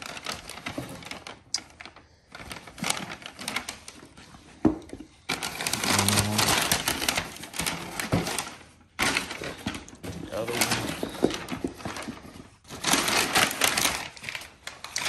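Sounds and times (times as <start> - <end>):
packing paper crinkling: 0.0 - 4.5, 5.2 - 15.0.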